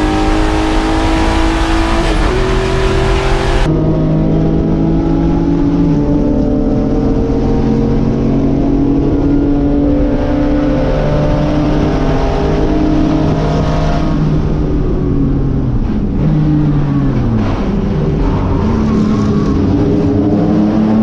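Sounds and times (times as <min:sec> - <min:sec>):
race car engine under load: 0:00.0 - 0:21.0.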